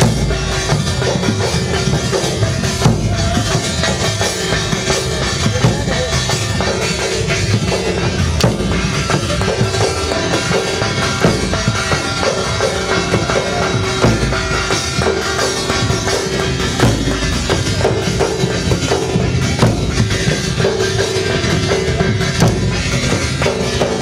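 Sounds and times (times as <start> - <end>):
steady drumming: 0.0 - 24.0.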